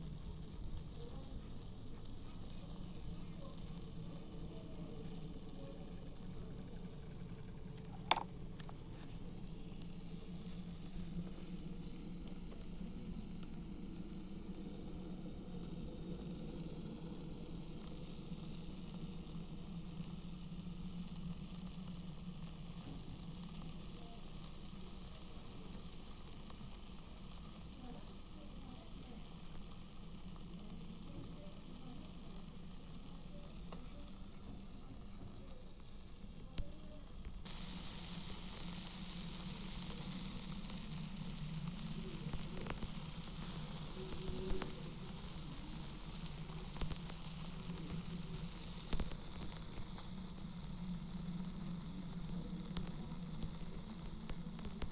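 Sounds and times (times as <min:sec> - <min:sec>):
food sizzling on a grill: 0:00.0 - 0:54.9.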